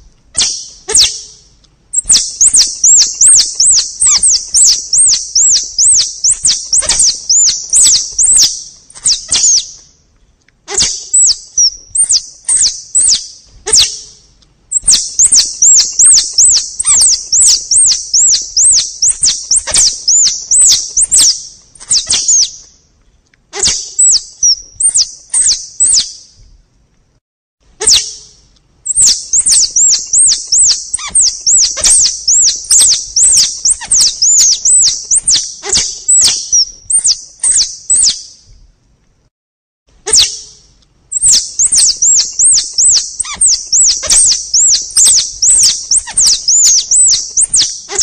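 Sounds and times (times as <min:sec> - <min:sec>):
squirrel lure call chirping: 0:00.4 - 0:09.8, 0:10.7 - 0:22.6, 0:23.6 - 0:26.2, 0:27.8 - 0:38.4, 0:40.1 - 0:48.0.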